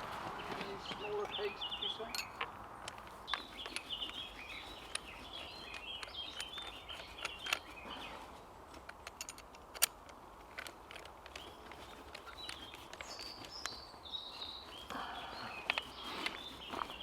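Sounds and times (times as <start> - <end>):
small birds chirping: 0.0 - 9.0, 11.0 - 17.0
sharp clicks and knocks: 0.0 - 13.8.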